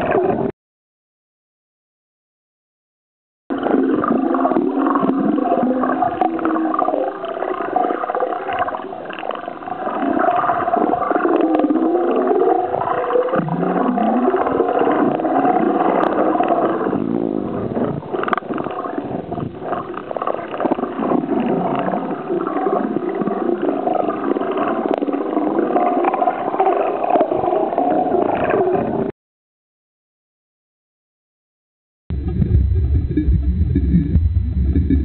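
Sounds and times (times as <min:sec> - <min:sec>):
muffled underwater rushing: 0:00.0 - 0:00.5, 0:03.5 - 0:29.1, 0:32.1 - 0:35.0.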